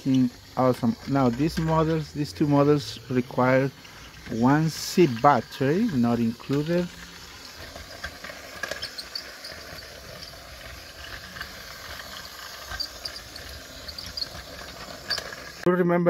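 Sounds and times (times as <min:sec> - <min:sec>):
toy train motor whirring: 0:00.0 - 0:15.7.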